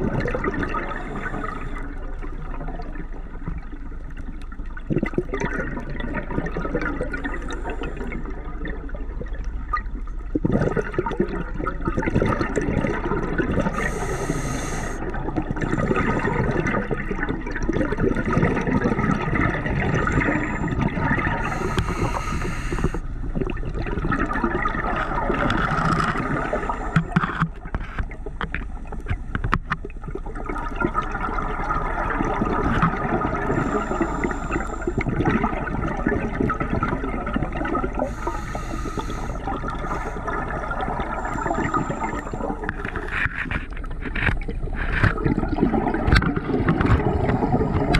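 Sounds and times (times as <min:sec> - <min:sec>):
scuba exhaust bubbles hissing: 0:00.0 - 0:04.0, 0:04.8 - 0:29.2, 0:29.9 - 0:43.9, 0:44.6 - 0:47.9
underwater water rushing: 0:00.0 - 0:47.9.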